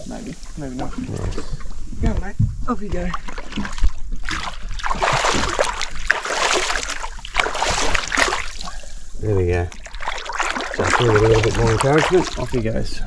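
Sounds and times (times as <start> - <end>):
sea water splashing: 0.0 - 13.0.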